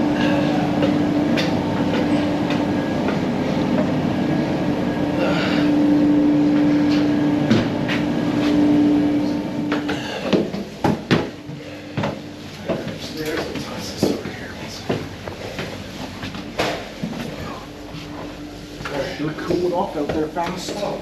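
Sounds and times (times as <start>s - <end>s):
heavy machinery rumbling: 0.0s - 21.0s.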